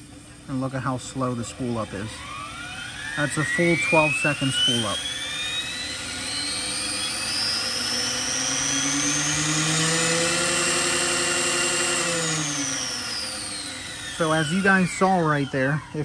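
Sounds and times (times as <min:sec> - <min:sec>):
helicopter motor whine: 0:00.0 - 0:16.0.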